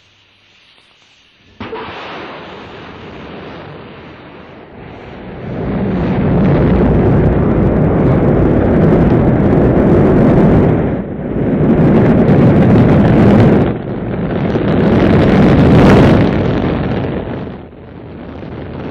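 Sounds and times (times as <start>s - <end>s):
rocket engines rushing roar: 1.4s - 18.9s.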